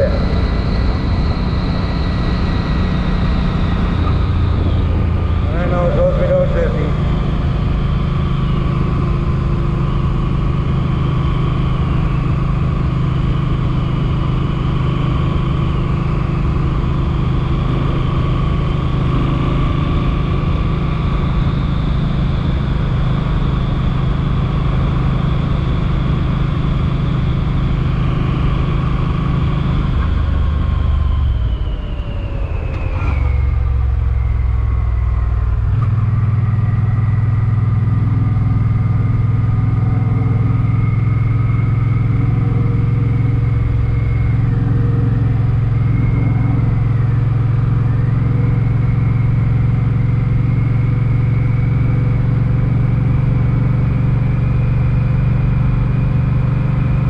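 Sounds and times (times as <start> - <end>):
motorcycle engine running: 0.0 - 31.4, 33.2 - 57.0.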